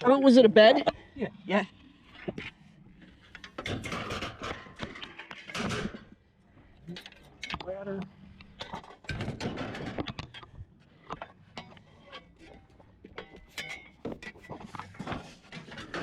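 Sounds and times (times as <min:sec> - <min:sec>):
scrap metal clanking and rattling: 0:02.2 - 0:16.0.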